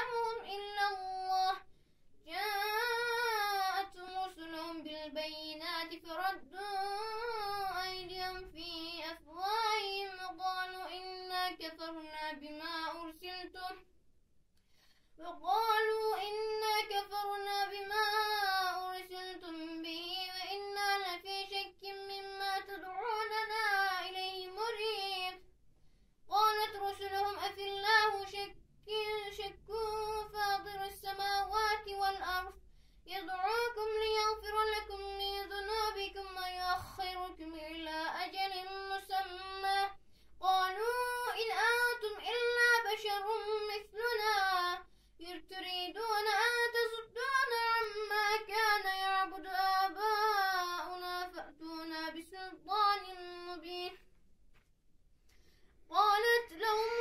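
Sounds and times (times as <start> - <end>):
boy chanting melodically: 0.0 - 13.8, 15.2 - 25.4, 26.3 - 54.0.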